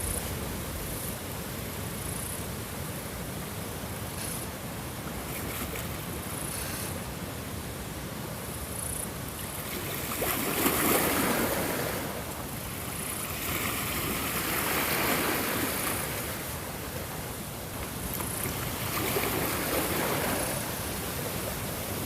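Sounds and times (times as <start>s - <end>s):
ocean waves washing ashore: 0.0s - 22.0s.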